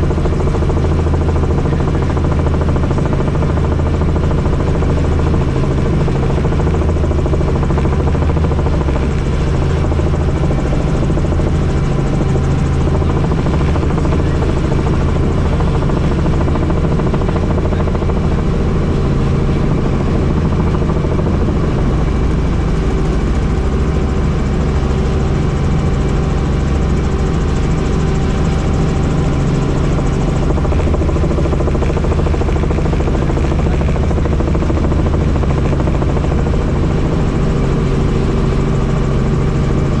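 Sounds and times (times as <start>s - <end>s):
helicopter rotor and engine: 0.0s - 40.0s.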